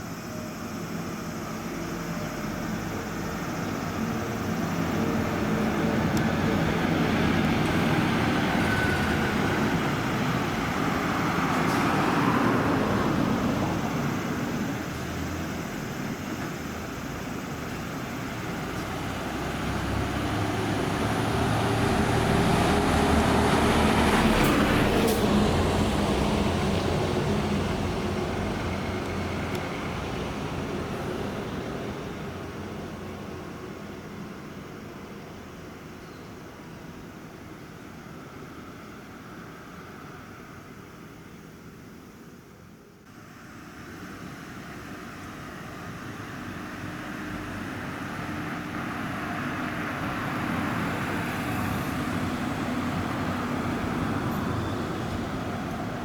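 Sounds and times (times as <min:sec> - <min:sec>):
buses driving past: 0:00.0 - 0:56.0.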